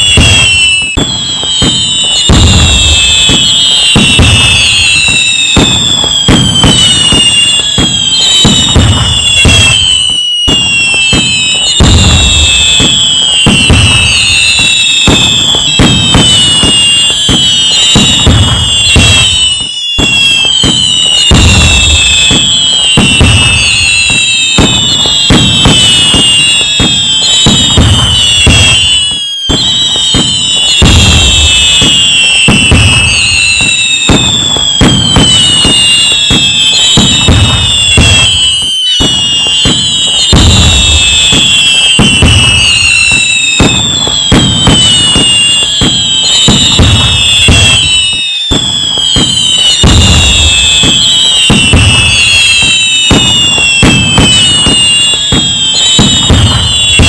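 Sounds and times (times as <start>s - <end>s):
fireworks bangs and crackle: 0.0s - 57.0s
whistling firework shells: 0.0s - 57.0s.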